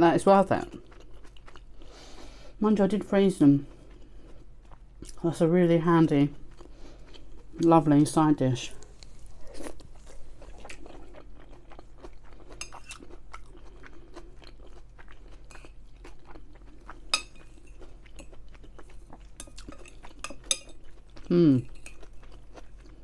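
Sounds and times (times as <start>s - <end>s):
chewing food: 0.6s - 2.2s, 3.6s - 5.2s, 6.4s - 7.7s, 8.7s - 23.0s.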